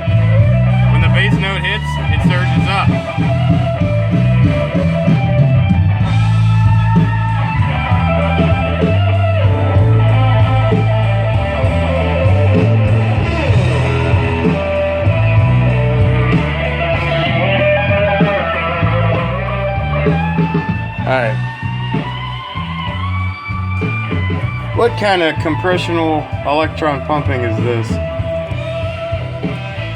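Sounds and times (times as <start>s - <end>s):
loud rock music: 0.0s - 29.9s.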